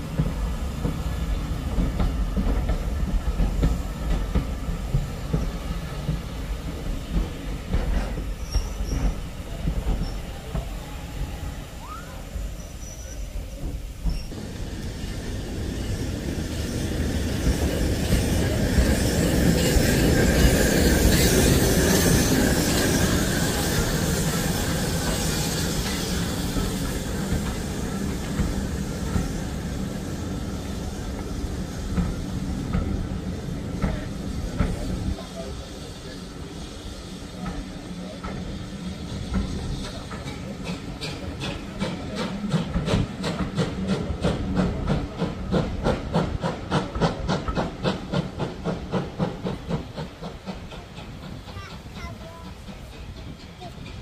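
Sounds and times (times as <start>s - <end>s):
steam locomotive passing: 0.0s - 54.0s
train carriages rolling: 0.0s - 54.0s.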